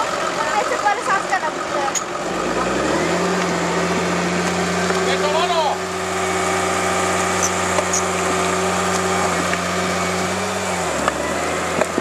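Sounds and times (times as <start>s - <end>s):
bulldozer diesel engine: 0.0s - 12.0s.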